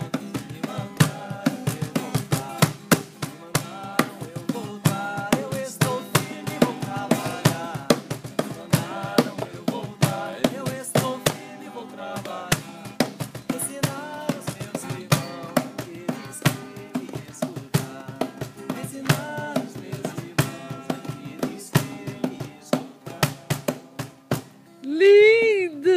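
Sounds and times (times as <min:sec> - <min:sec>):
voices singing a chant: 0:00.0 - 0:24.0
drums beating quick rhythm: 0:00.0 - 0:24.6.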